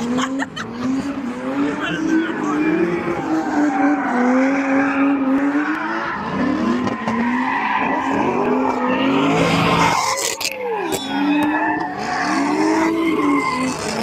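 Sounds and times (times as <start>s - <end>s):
car engine revving hard: 0.0s - 14.0s
tyres squealing and skidding: 0.0s - 14.0s.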